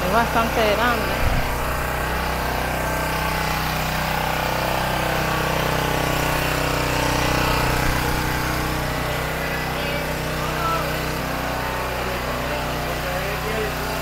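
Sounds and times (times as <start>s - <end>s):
generator engine drone: 0.0s - 14.0s.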